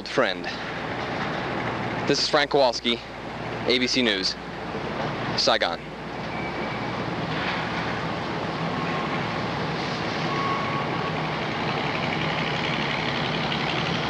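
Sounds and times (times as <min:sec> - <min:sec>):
tractor engine humming: 0:00.0 - 0:14.0.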